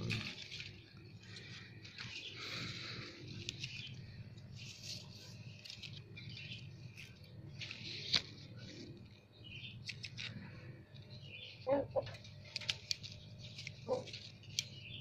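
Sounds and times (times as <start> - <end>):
leaves rustling: 0.0 - 10.7, 11.6 - 15.0.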